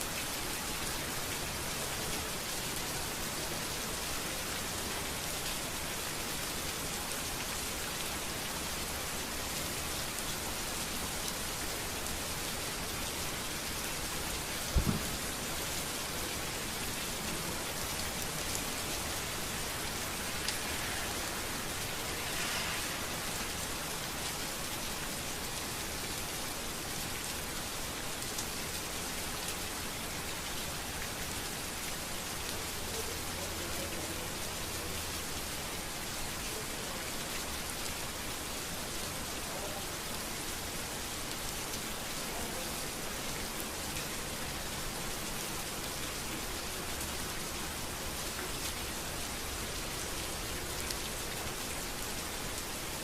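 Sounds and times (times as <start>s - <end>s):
rain falling on street: 0.0s - 53.0s.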